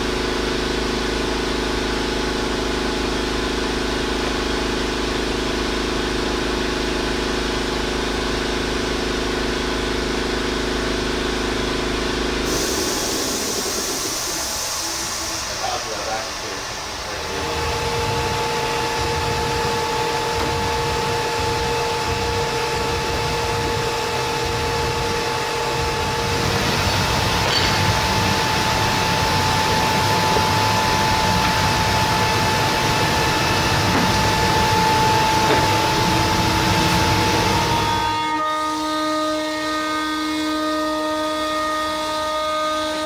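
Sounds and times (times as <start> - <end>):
lower whine: 0.0 - 43.0
machine roar with whine: 0.0 - 43.0.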